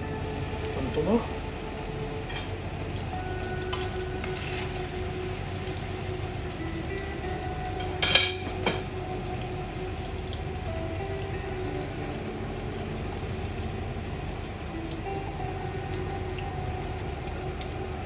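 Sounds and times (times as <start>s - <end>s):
food frying in oil: 0.0s - 18.0s.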